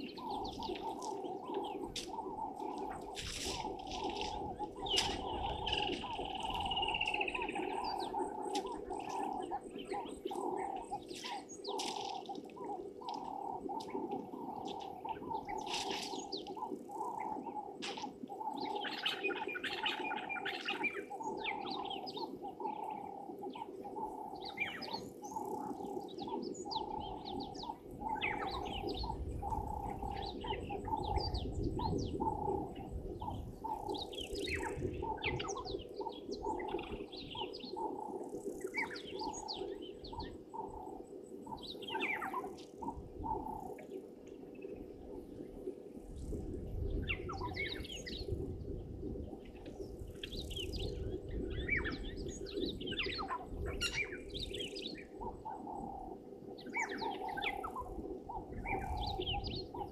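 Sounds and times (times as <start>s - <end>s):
birds chirping and calling: 0.0s - 44.9s, 46.2s - 48.6s, 49.2s - 59.9s.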